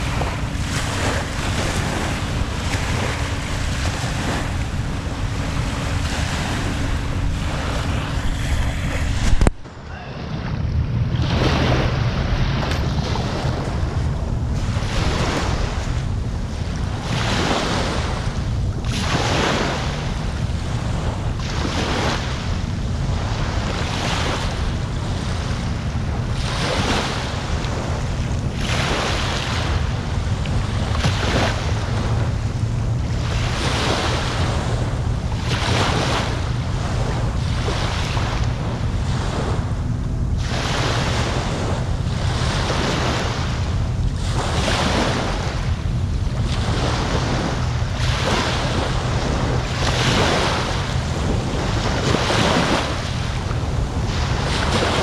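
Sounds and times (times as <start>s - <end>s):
small waves breaking on shore: 0.0s - 55.0s
wind rumble on microphone: 0.0s - 55.0s.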